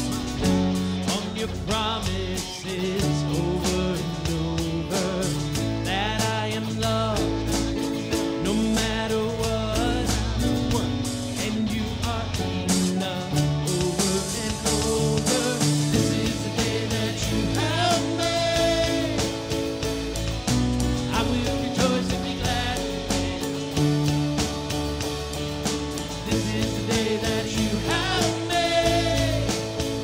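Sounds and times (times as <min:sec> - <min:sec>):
person singing: 0:00.0 - 0:20.2, 0:21.0 - 0:24.3, 0:26.0 - 0:30.0
drums: 0:00.0 - 0:30.0
guitars: 0:00.0 - 0:30.0.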